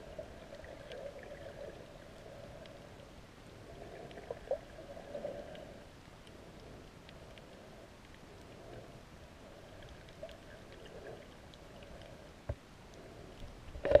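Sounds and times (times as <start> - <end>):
faint ticks and crackles: 0.0 - 14.0
muffled underwater rumble: 0.0 - 14.0.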